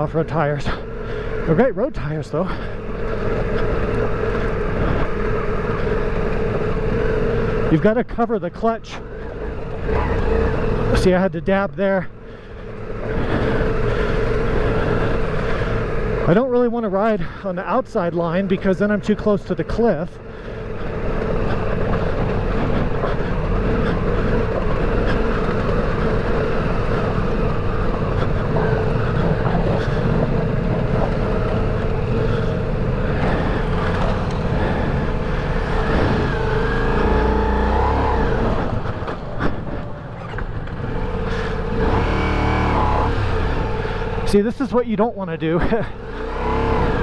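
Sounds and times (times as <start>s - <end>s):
motorcycle engine revving: 0.0s - 8.2s, 8.9s - 11.2s, 12.1s - 16.5s, 18.2s - 44.6s, 45.6s - 47.0s.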